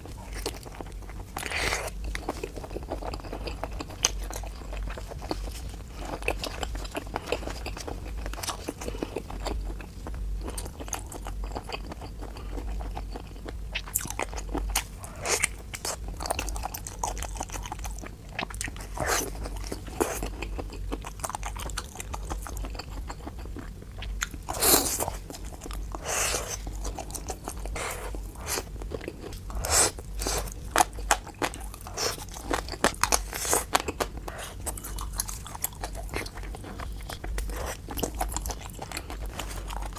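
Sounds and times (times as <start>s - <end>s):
chewing seafood crunches: 0.0s - 39.9s.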